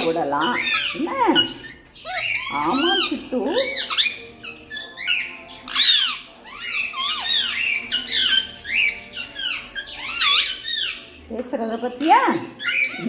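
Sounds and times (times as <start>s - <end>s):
parrots chirping and squawking: 0.0s - 13.0s.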